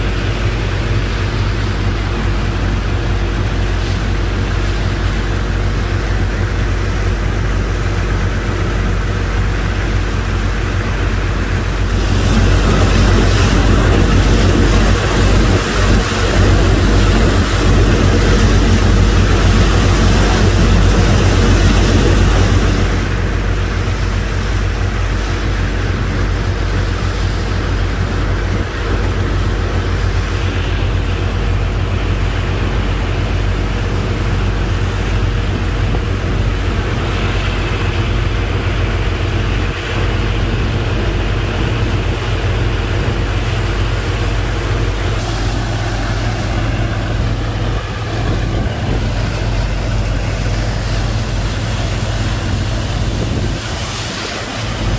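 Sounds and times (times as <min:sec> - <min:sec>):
pump engine droning: 0:00.0 - 0:54.9
rushing noise: 0:00.0 - 0:54.9.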